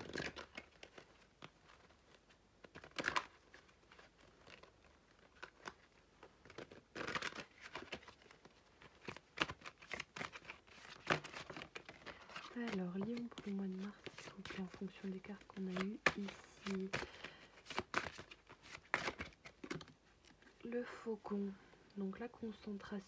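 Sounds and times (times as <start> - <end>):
cards rustling and tapping: 0.0 - 20.7.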